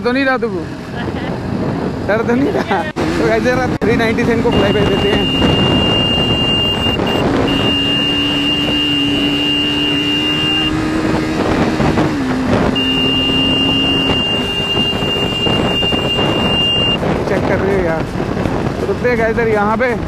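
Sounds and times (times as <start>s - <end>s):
wind on microphone: 0.7s - 20.0s
motorcycle engine running: 3.1s - 19.8s.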